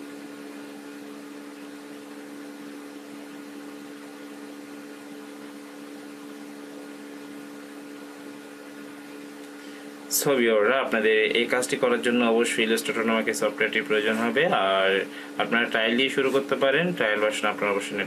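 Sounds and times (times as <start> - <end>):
steady low hum with tones: 0.0 - 18.0.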